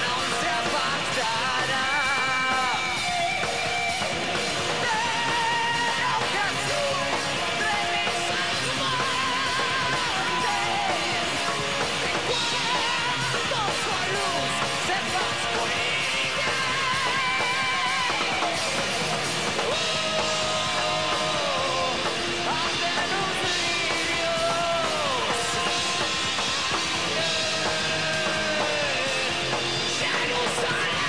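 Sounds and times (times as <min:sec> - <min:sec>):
heavy metal band playing: 0:00.0 - 0:31.0.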